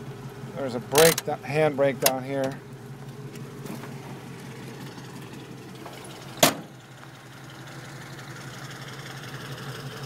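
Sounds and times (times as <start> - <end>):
engine idling from inside cab: 0.0 - 10.0.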